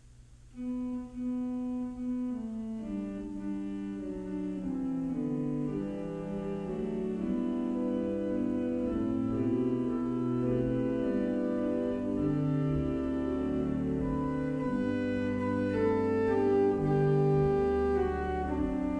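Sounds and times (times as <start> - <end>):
slow keyboard music: 0.6 - 18.9.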